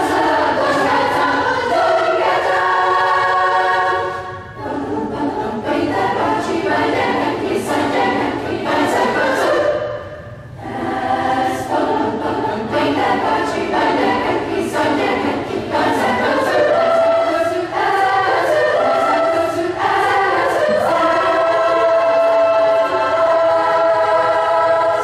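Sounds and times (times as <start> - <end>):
children's choir singing: 0.0 - 25.0.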